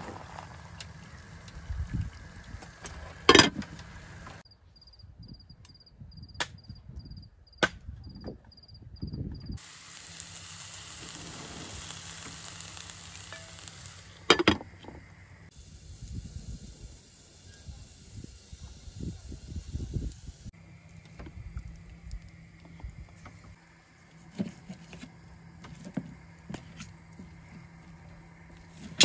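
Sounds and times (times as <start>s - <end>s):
food cooking hiss: 0.0s - 4.4s, 9.6s - 29.0s.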